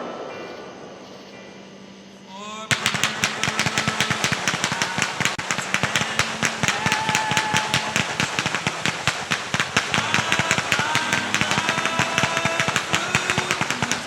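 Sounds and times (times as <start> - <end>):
firework whistles: 2.7 - 14.0
fireworks crackling pops: 2.7 - 14.0.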